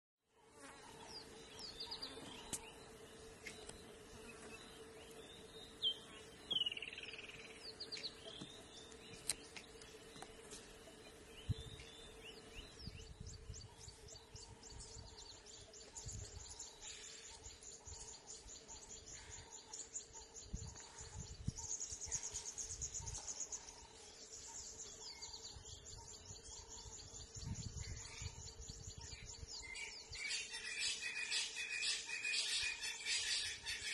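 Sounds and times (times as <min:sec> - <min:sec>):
faint insect drone: 0:00.4 - 0:28.9
wild birds chirping: 0:00.4 - 0:33.9.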